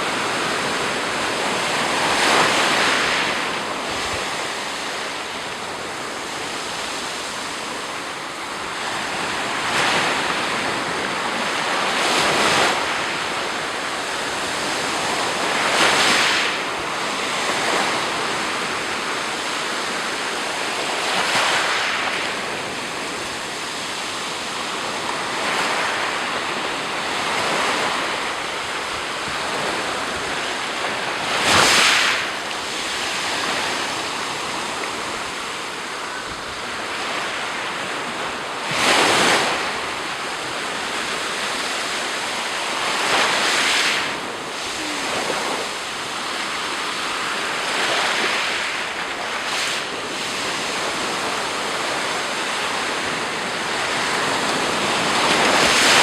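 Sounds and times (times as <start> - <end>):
waves breaking on the shore: 0.0 - 56.0.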